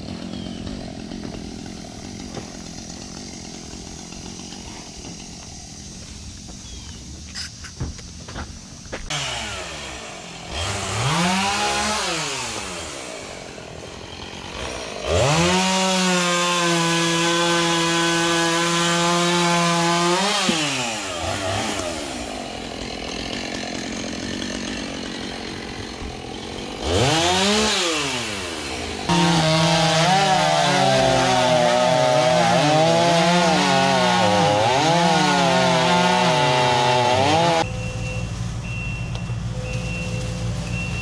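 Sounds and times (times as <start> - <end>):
chainsaw engine revving: 0.0 - 6.0, 9.0 - 37.7.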